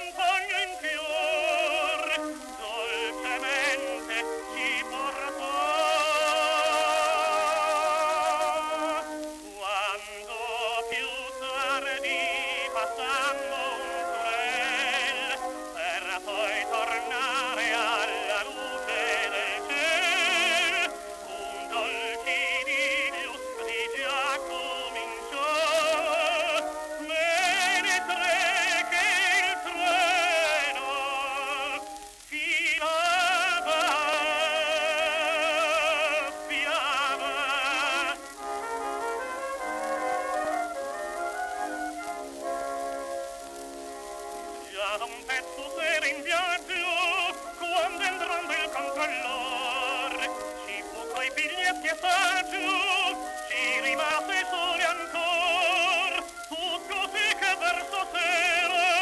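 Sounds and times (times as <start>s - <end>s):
record surface hiss: 0.0s - 59.0s
tenor singing with orchestra: 0.0s - 59.0s.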